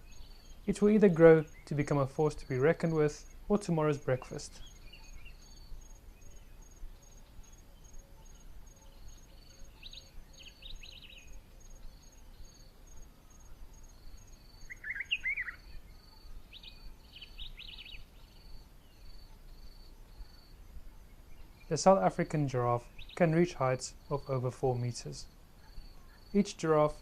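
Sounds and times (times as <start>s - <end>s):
bird calls: 0.0s - 27.0s
insect chirping in pulses: 0.0s - 27.0s.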